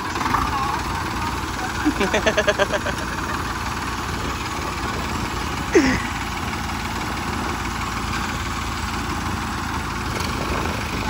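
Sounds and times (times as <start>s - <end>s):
tractor diesel engines idling: 0.0s - 11.0s.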